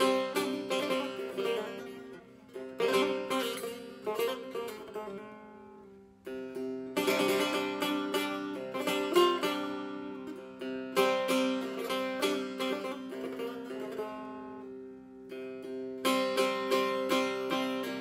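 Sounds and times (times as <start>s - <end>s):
long-necked lute plucked: 0.0s - 18.0s.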